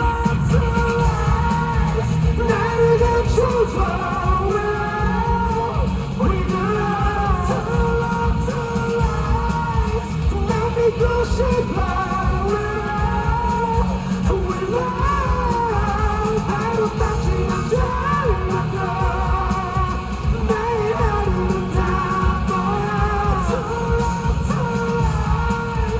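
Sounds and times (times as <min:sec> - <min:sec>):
live pop-rock band: 0:00.0 - 0:25.9
man singing: 0:00.0 - 0:25.9.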